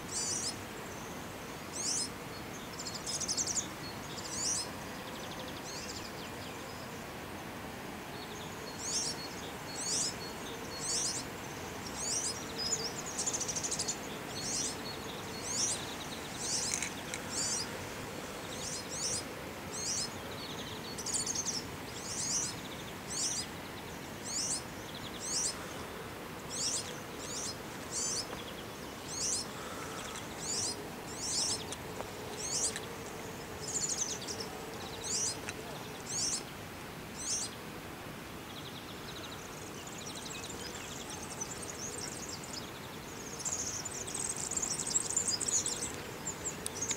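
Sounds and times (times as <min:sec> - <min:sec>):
steady background noise: 0:00.0 - 0:46.9.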